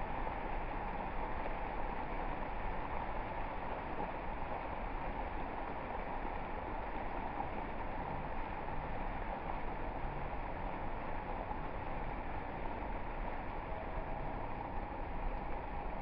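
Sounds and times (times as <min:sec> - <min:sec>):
water fountain splashing: 0:00.0 - 0:16.0.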